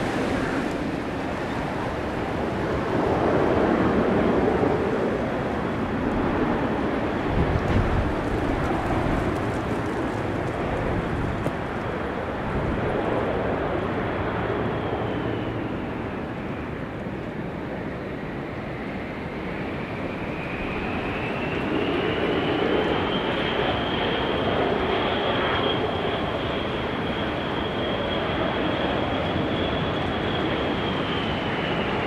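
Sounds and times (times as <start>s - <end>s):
jet engines rushing with whine: 0.0s - 32.0s.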